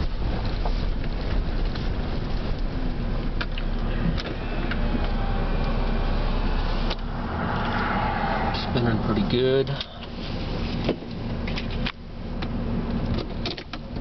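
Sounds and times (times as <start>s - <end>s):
truck engine and road rumble: 0.0s - 14.0s.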